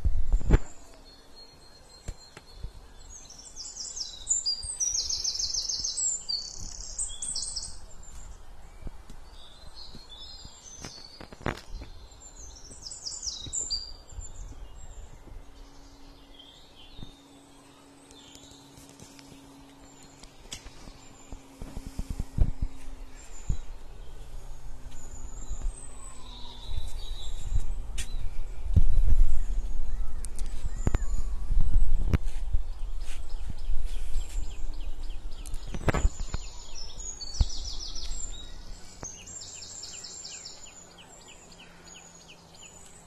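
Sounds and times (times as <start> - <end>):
outdoor background noise: 0.0 - 43.0
songbirds singing: 0.0 - 43.0.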